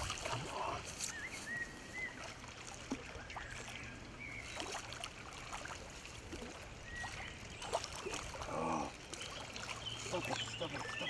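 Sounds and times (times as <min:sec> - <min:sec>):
fish splashing in water: 0:00.0 - 0:00.7, 0:02.2 - 0:11.0.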